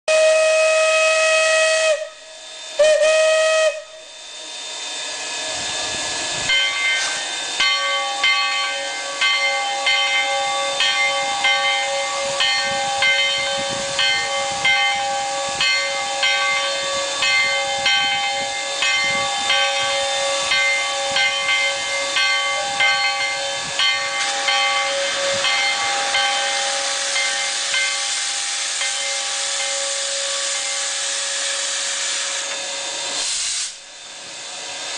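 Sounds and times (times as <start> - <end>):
steam locomotive whistle: 0.1 - 4.6, 6.5 - 33.8
steam hissing: 0.1 - 34.9.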